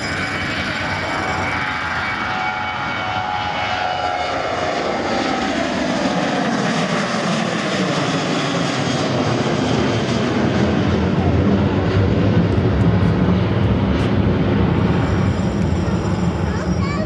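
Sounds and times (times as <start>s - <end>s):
jet engine whine: 0.0s - 17.0s
low jet rumble: 0.0s - 17.0s.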